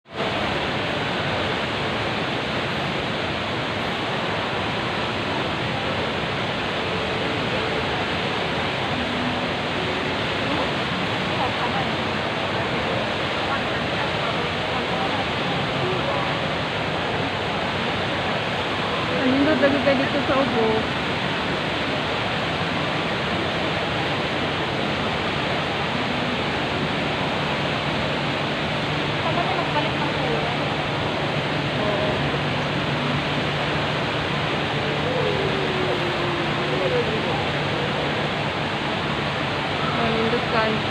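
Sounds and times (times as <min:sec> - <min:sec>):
indoor waterfall rushing: 0:00.0 - 0:40.9.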